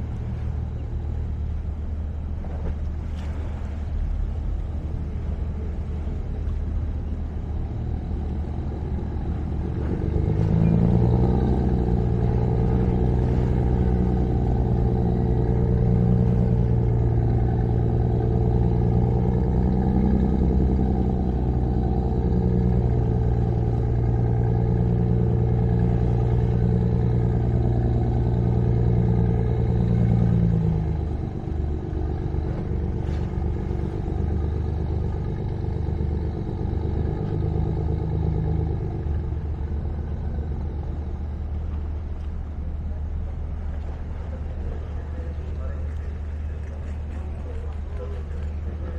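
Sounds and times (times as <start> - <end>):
motor engine humming: 0.0 - 48.9.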